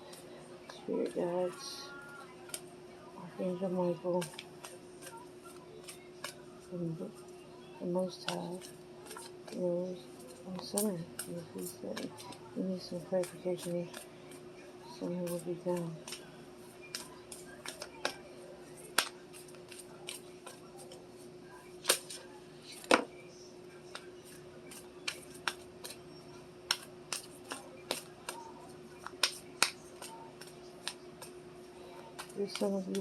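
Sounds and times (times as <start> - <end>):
cards being shuffled: 0.0 - 2.7, 3.4 - 23.1, 23.8 - 33.0
steady hum: 0.0 - 33.0.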